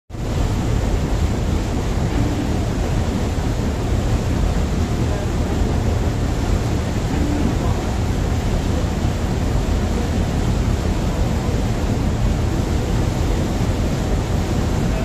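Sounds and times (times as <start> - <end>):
ferry engine rumble: 0.1 - 15.0
wake rushing along hull: 0.1 - 15.0.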